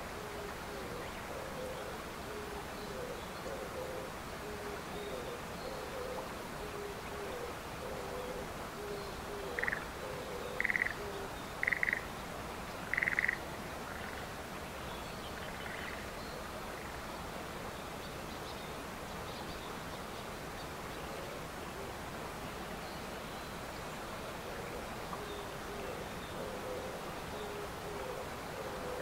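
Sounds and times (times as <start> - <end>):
steady outdoor hiss: 0.0 - 29.0.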